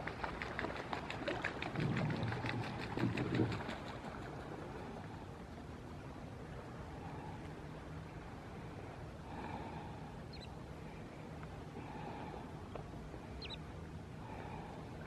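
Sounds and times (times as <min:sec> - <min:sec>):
water: 0:00.0 - 0:15.0
boat motor rumbling: 0:01.5 - 0:15.0.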